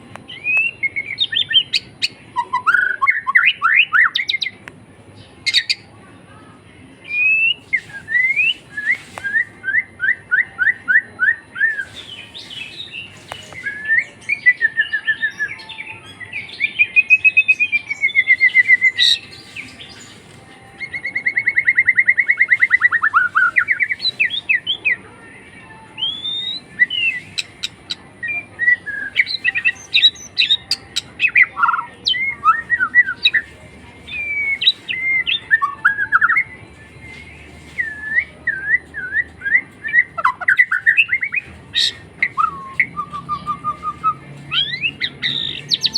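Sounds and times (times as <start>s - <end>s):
songbird singing: 0.0s - 45.9s.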